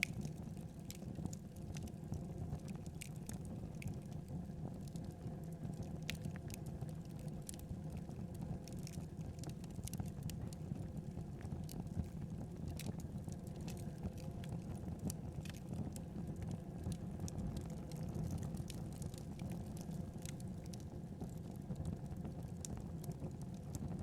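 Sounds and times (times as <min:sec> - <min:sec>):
fire flames rumbling: 0:00.0 - 0:24.0
wood fire crackling and popping: 0:00.0 - 0:24.0.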